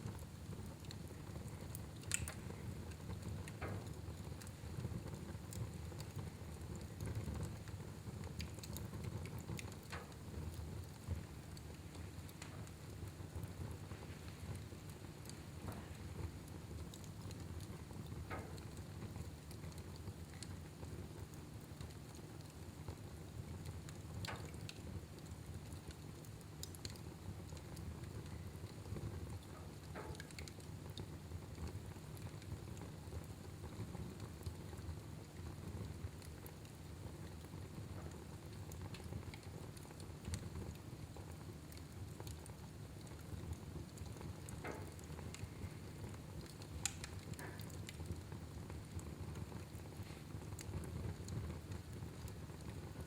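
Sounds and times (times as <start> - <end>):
fire crackling and popping: 0.0 - 53.0
fire low rumble: 0.0 - 53.0.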